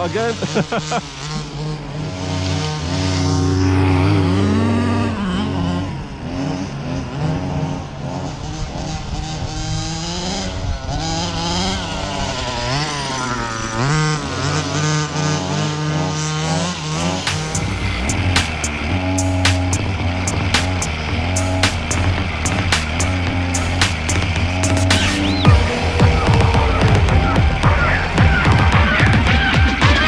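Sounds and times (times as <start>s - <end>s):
small two-stroke engine revving: 0.0s - 30.0s.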